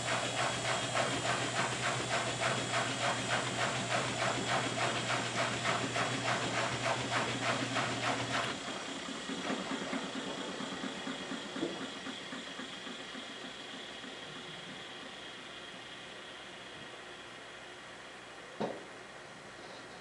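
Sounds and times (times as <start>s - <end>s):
drum motor running: 0.0s - 16.7s
washing machine pump hum: 0.0s - 17.5s.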